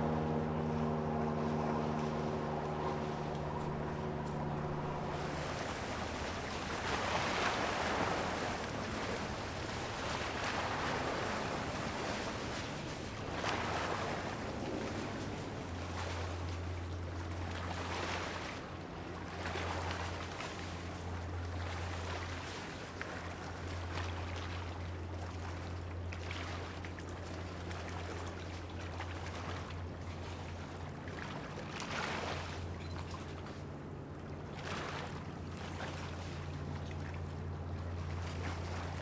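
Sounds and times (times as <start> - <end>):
ship engine drone: 0.0 - 39.0.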